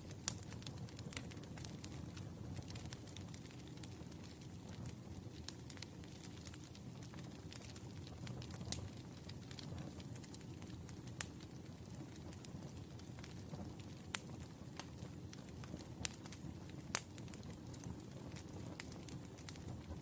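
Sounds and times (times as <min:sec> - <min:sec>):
firewood crackling and popping: 0:00.0 - 0:20.0
low rumble of fire flames: 0:00.0 - 0:20.0.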